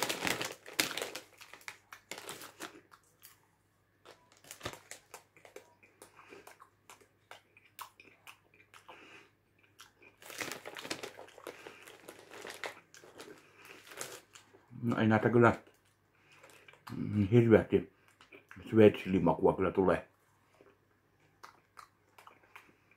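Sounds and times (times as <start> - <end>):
popcorn being chewed: 0.0 - 17.4, 18.0 - 18.8, 20.3 - 22.9.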